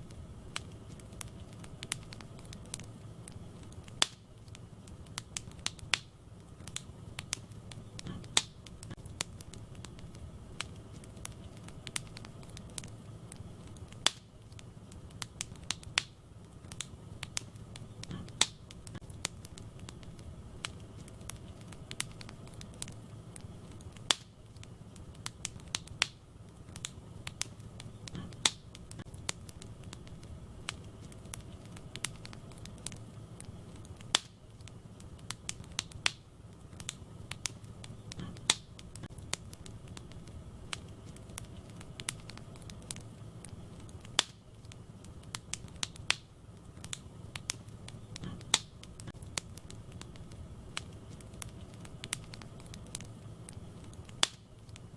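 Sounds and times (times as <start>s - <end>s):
low hiss of burning: 0.0s - 54.9s
wood fire crackling: 0.0s - 54.9s.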